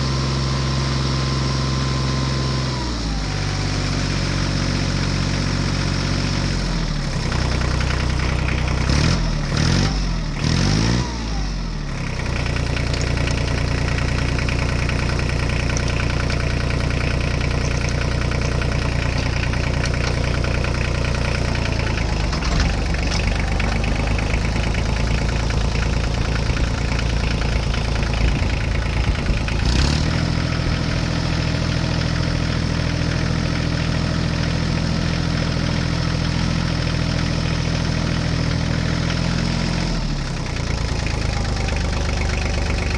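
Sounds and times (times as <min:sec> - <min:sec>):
diesel tractor engine revving: 0:00.0 - 0:42.9.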